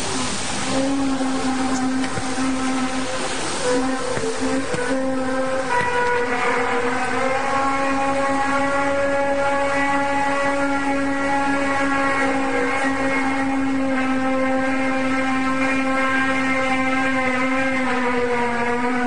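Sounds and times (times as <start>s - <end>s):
loud droning hum: 0.0s - 19.0s.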